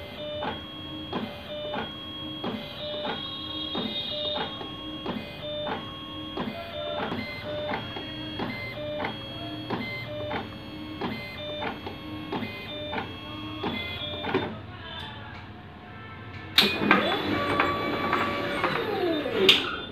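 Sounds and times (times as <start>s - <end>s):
paint tinting machine motors whirring: 0.0s - 14.7s, 16.6s - 19.9s.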